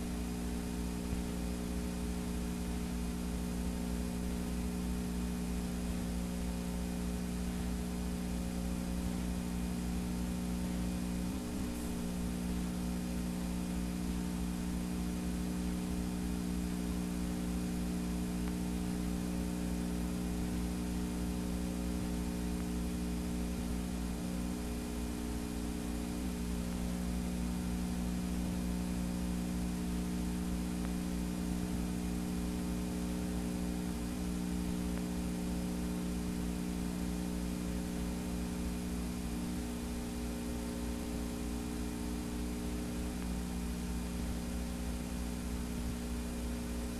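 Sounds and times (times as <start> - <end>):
electrical hum: 0.0 - 46.9
videotape hiss: 0.0 - 46.9.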